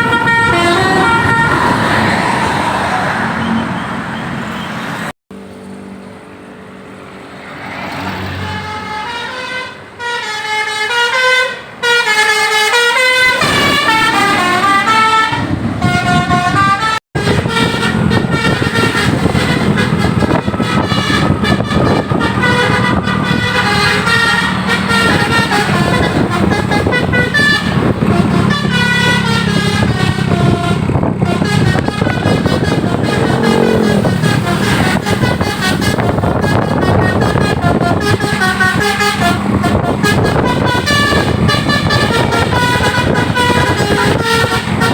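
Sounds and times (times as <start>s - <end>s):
melodic multi-tone bus horns: 0.0s - 5.1s, 7.7s - 44.9s
low rumble of bus engine: 0.0s - 44.9s.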